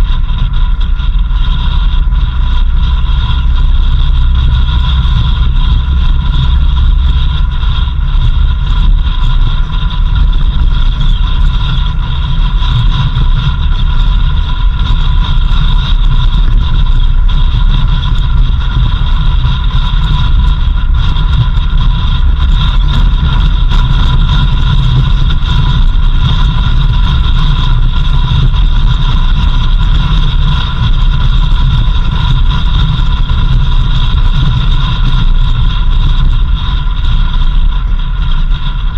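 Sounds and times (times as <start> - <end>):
high-pitched whine: 0.0 - 38.9
vehicle engine and road rumble: 0.0 - 38.9.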